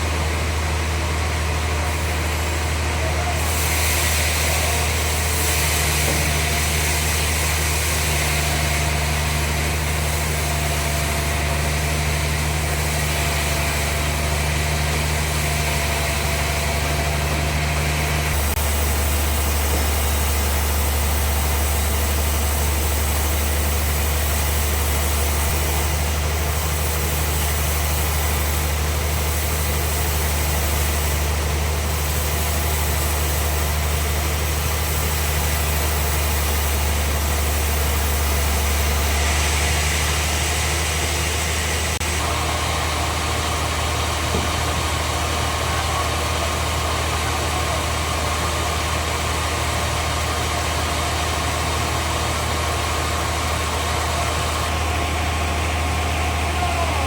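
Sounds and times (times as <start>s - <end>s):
sawmill machinery hum: 0.0s - 57.0s.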